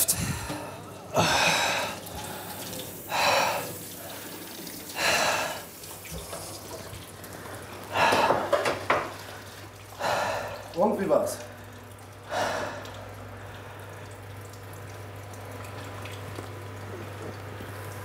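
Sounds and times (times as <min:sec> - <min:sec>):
tap water running into sink: 0:00.3 - 0:18.0.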